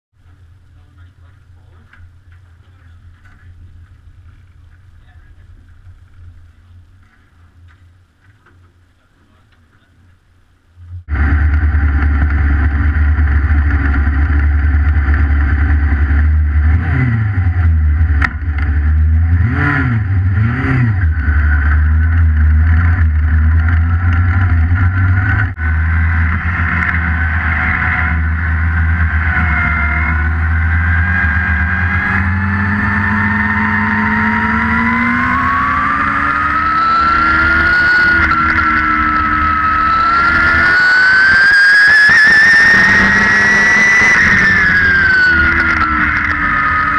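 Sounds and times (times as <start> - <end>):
race car engine idling and revving: 0.2 - 46.9.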